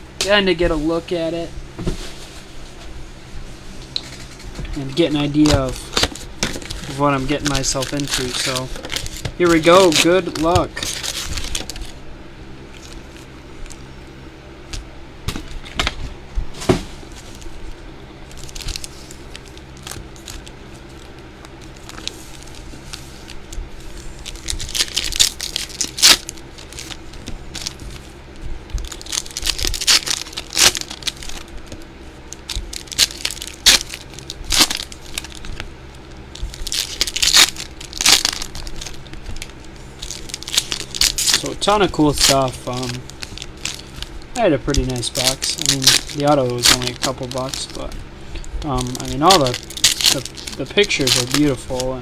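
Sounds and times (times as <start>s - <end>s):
wrappers ripping and crinkling: 3.8s - 12.0s, 12.6s - 13.8s, 17.0s - 52.0s.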